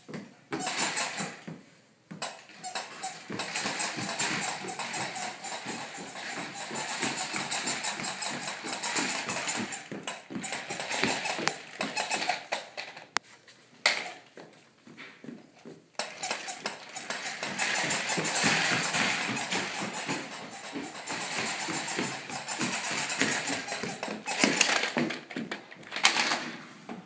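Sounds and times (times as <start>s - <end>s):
pull toy clattering on floor: 0.5s - 1.4s, 2.2s - 13.2s, 16.0s - 26.7s.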